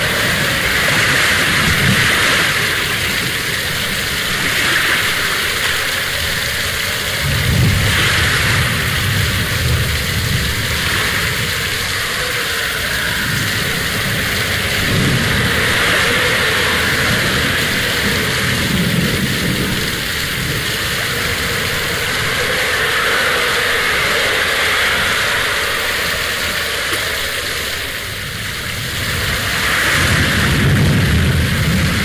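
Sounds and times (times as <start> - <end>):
steady outdoor hiss: 0.0 - 32.0
wind buffeting microphone: 0.0 - 32.0.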